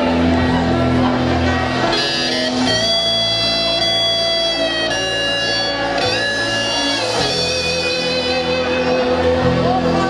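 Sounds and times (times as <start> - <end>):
live rock band playing: 0.0 - 10.0
held electric guitar notes: 0.1 - 10.0.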